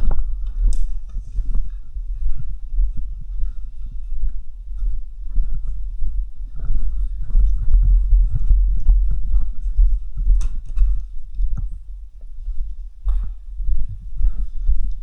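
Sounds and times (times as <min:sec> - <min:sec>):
heavy low camera rumble: 0:00.0 - 0:15.0.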